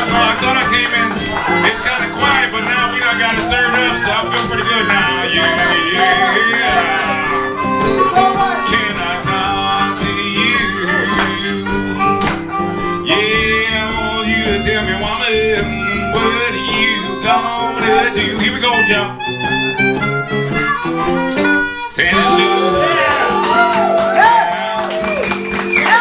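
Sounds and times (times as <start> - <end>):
blues harmonica: 0.0 - 26.0
strummed acoustic guitar: 0.0 - 26.0.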